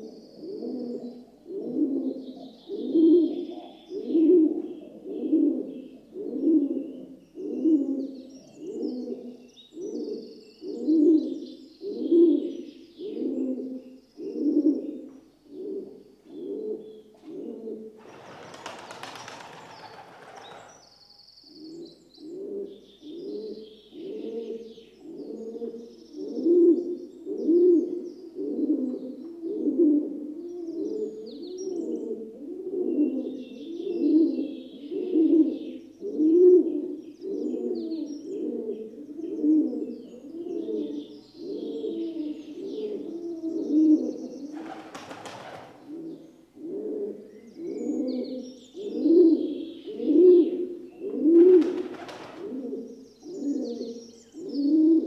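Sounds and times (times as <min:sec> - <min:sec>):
pigeon cooing: 0:00.0 - 0:20.8, 0:21.6 - 0:55.0
small birds chirping faintly: 0:00.0 - 0:55.0.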